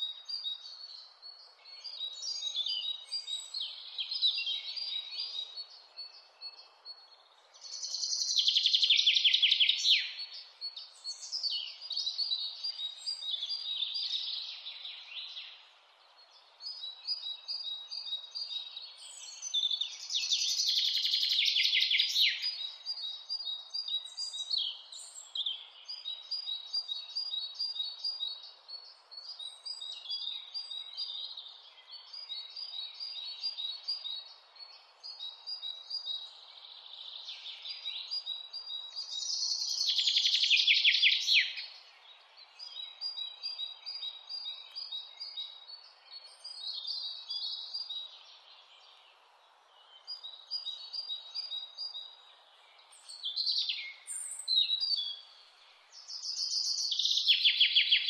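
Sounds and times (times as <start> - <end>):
birds singing: 0.0 - 58.0
faint steady hiss: 0.0 - 58.0.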